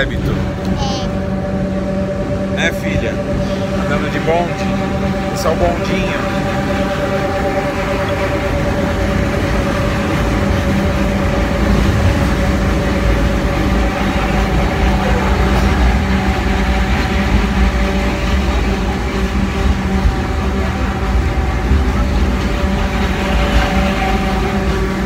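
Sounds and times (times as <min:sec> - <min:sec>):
tram motor hum: 0:00.0 - 0:25.0
tram wheels rumbling on track: 0:00.0 - 0:25.0.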